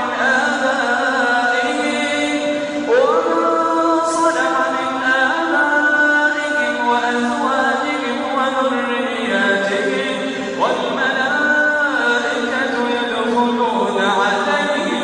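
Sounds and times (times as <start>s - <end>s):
vocal chanting in held notes: 0.0s - 15.0s.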